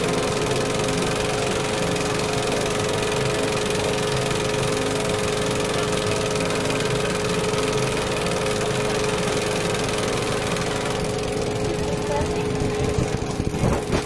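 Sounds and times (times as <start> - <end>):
steady mid-pitched hum: 0.0 - 14.0.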